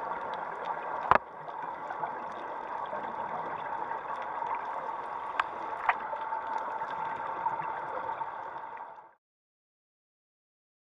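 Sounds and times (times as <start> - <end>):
steady underwater hum: 0.0 - 9.2.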